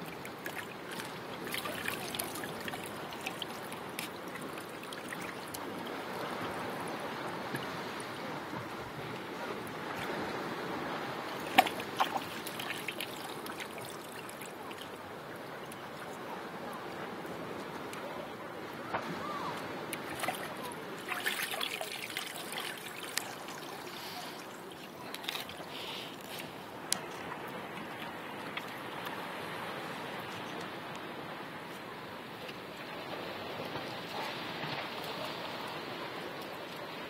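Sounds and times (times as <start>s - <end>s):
water sloshing in rock pool: 0.0s - 31.0s.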